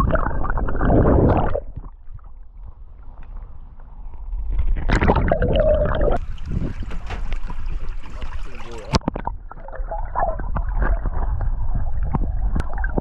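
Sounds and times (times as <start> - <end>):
muffled underwater river sloshing: 0.0 - 13.0.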